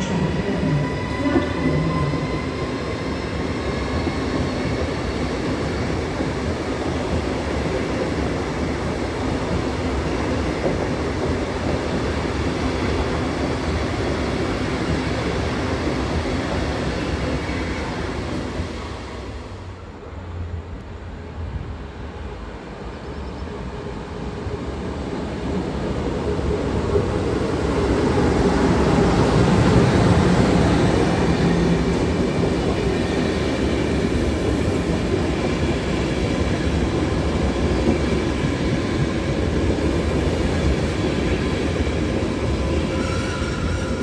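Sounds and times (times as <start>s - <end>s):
train wheels rolling on rails: 0.0s - 19.8s, 23.3s - 44.0s.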